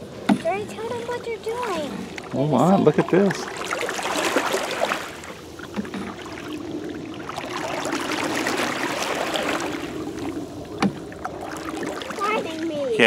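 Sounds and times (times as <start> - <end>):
paddles swishing through water: 0.0 - 13.0.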